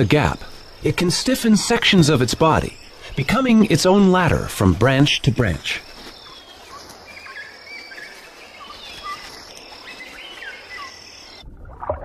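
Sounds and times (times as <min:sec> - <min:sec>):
high insect drone: 0:00.0 - 0:11.4.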